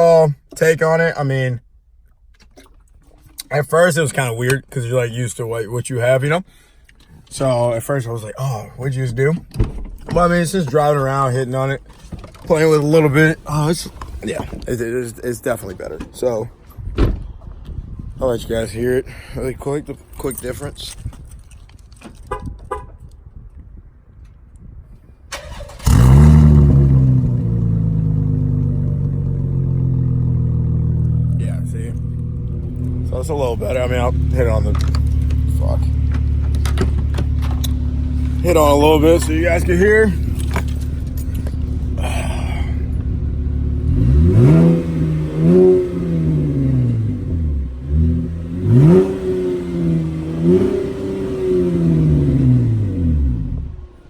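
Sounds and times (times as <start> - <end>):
car engine starting and idling: 0.0 - 23.2, 25.2 - 54.0.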